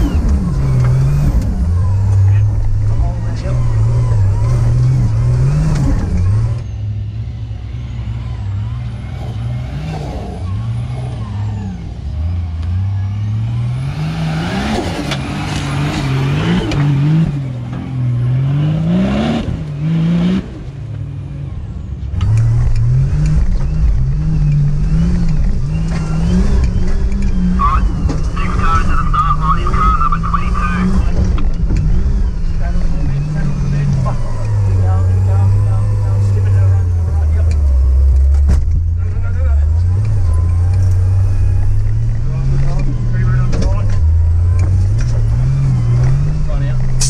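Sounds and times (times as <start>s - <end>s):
truck engine revving hard: 0.0s - 6.8s, 7.5s - 20.8s, 22.2s - 47.0s.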